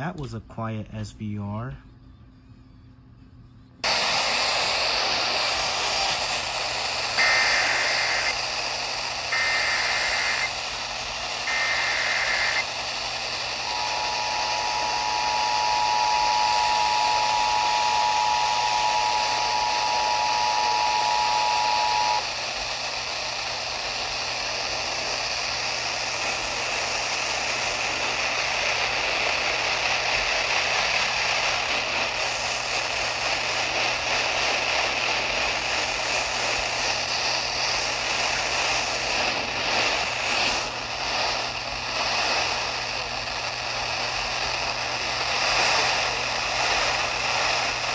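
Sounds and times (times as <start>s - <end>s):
digital data bursts: 3.8s - 47.9s
radio static hiss: 3.8s - 47.9s.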